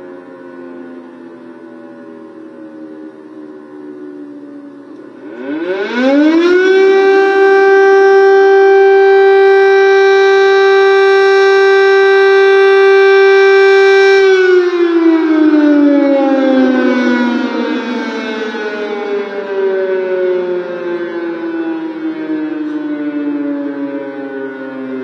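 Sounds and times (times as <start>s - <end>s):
air-raid siren: 0.0s - 25.0s.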